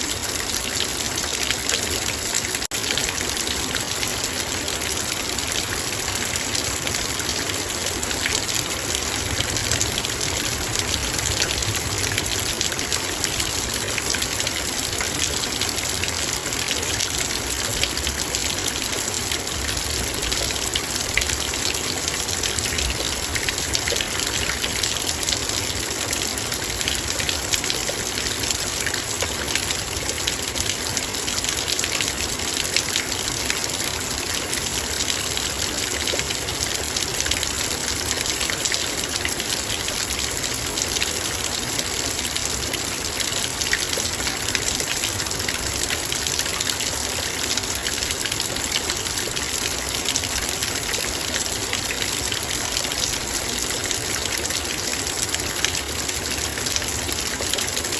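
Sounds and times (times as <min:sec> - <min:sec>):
heavy rain on a metal bowl: 0:00.0 - 0:57.9.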